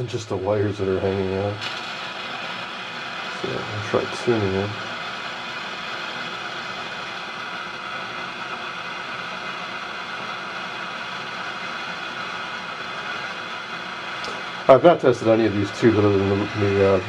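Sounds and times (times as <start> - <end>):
faint hum: 0.0 - 17.0
radio static hiss: 0.0 - 17.0.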